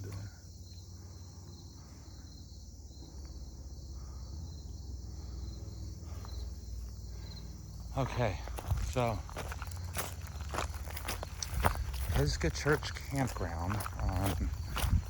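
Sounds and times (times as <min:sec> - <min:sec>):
faint insect chirp: 0:00.0 - 0:15.0
insects trilling: 0:00.0 - 0:15.0.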